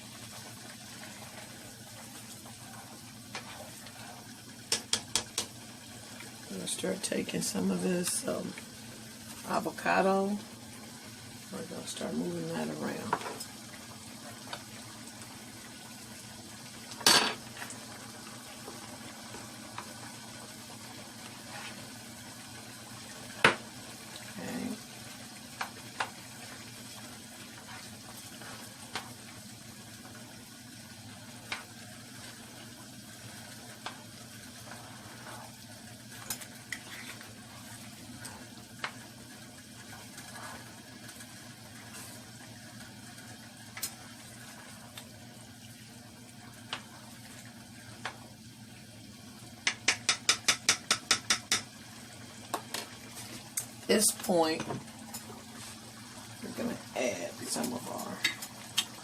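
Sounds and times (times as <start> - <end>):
chicken and onions sizzling: 0.0 - 59.0.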